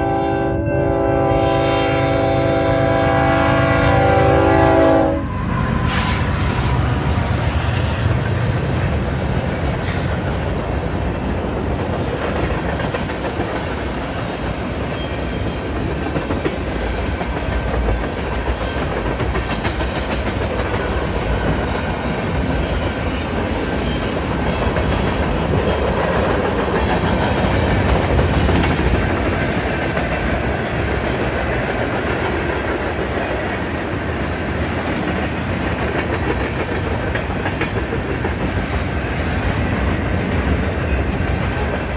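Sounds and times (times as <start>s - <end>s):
freight train rolling past: 0.0s - 41.9s.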